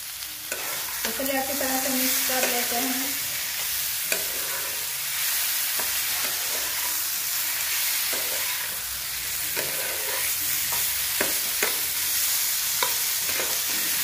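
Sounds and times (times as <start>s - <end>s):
vegetables sizzling in a pan: 0.0s - 14.0s
metal spatula scraping a pan: 0.4s - 12.0s, 12.8s - 14.0s.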